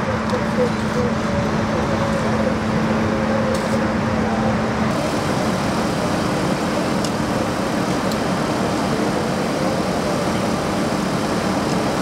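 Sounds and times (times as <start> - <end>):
engine hum: 0.0 - 12.0
freeway traffic: 0.0 - 12.0.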